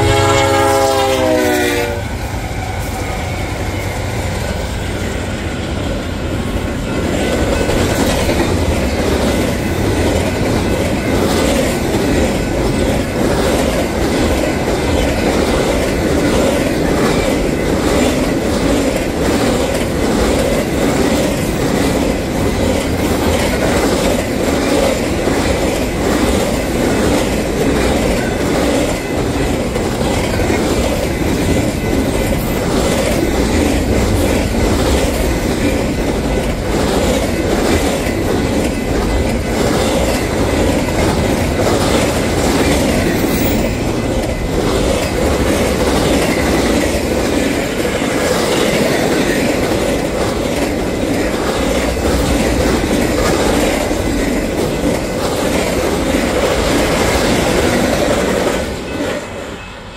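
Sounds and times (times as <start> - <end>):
diesel locomotives rumbling past: 0.0 - 59.9
train wheels clickety-clack: 0.0 - 59.9.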